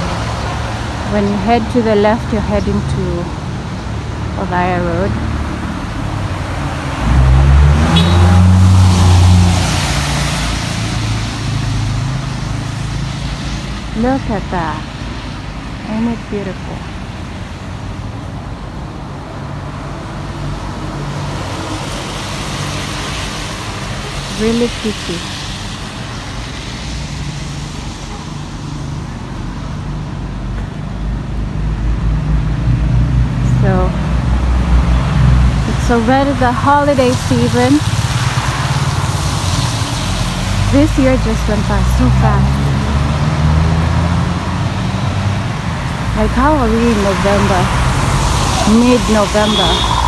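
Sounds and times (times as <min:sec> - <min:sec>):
car engine hum: 0:00.0 - 0:50.0
traffic noise: 0:00.0 - 0:50.0
tyres hissing on wet road: 0:00.0 - 0:50.0.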